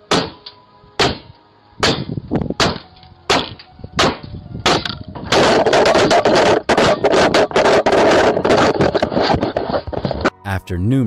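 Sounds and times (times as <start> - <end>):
loud rattle of knocks: 0.1 - 9.8.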